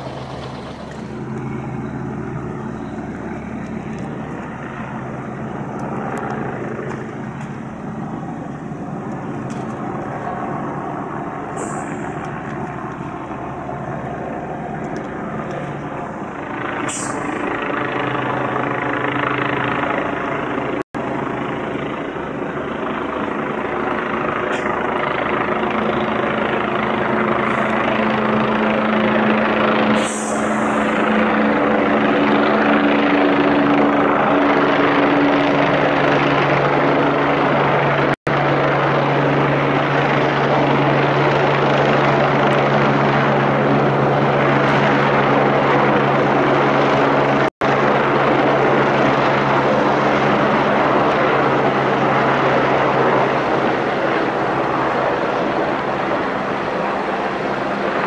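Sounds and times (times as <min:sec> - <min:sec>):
helicopter rotor and turbine noise: 0:00.0 - 0:58.0.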